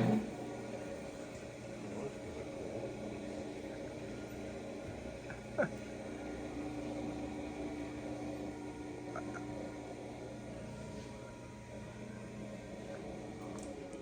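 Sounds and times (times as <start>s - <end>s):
indoor hum: 0.0s - 14.0s
steady humming tone: 0.0s - 14.0s.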